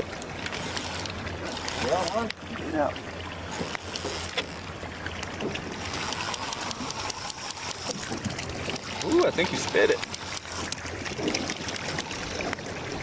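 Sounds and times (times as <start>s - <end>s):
boat engine idling: 0.0s - 13.0s
water sloshing around hull: 0.0s - 13.0s.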